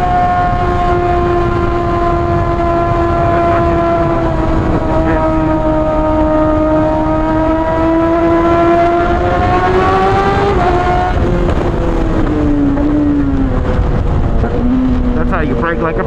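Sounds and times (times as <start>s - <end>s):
motorcycle engine revving: 0.0s - 16.0s
wind rush on microphone: 0.0s - 16.0s.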